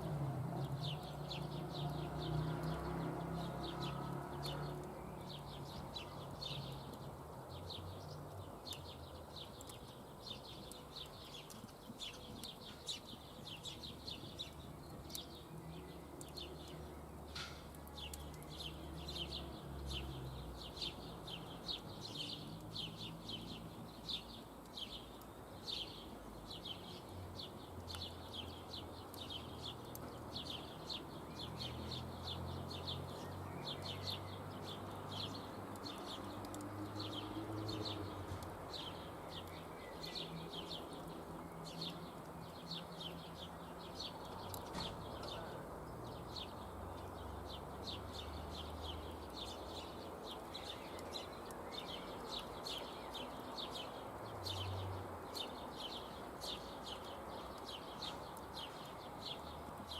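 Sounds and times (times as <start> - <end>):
bird chirping: 0.1 - 59.9.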